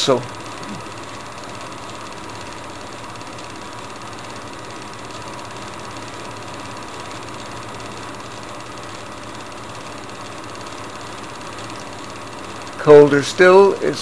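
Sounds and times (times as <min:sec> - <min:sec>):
film projector whirring: 0:00.0 - 0:14.0.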